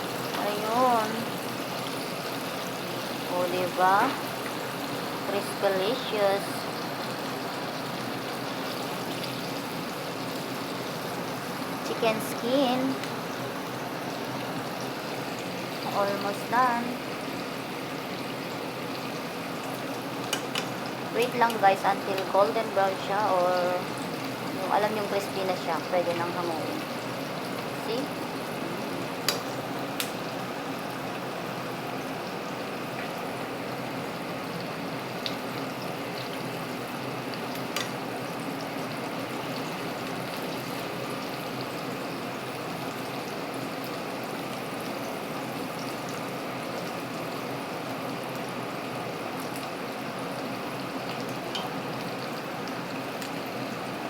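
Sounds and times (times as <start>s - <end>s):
chicken deep frying sizzle: 0.0s - 54.0s.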